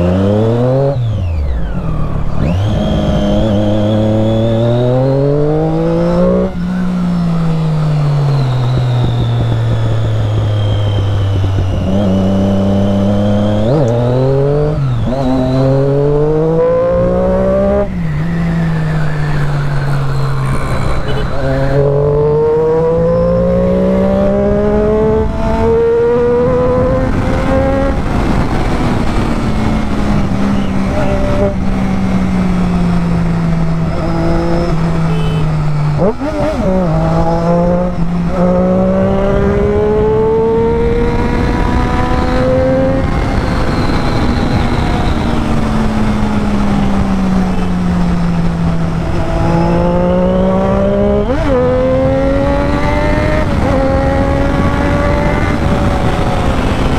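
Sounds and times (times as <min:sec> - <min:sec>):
motorcycle engine: 0:00.0 - 0:56.9
wind noise: 0:00.0 - 0:56.9.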